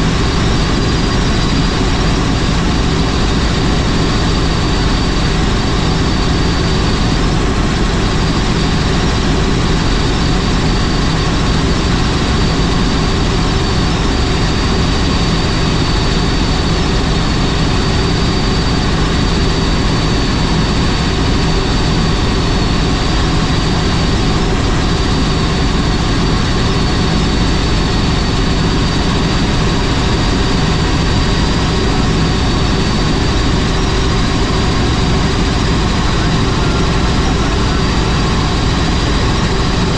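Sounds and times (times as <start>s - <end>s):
helicopter engine and rotor drone: 0.0s - 39.9s
thin high whine: 0.0s - 39.9s.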